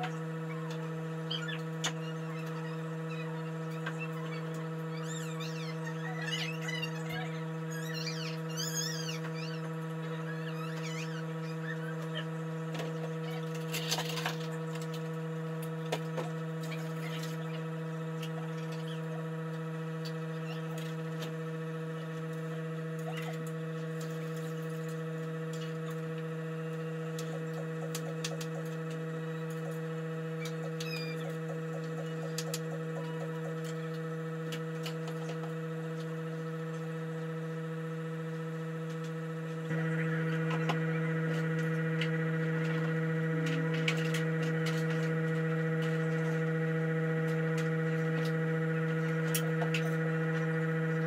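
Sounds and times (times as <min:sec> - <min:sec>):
steady electrical hum: 0:00.0 - 0:51.0.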